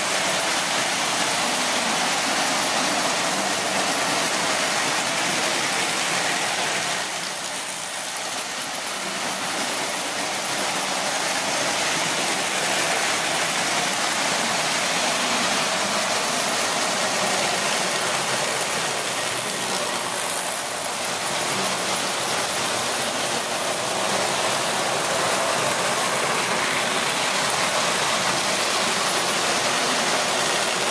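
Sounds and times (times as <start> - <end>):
toy trains whirring and rattling: 0.0 - 30.9.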